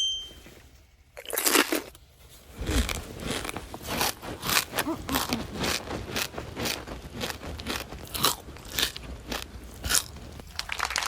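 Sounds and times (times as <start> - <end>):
person chewing food: 1.2 - 10.5.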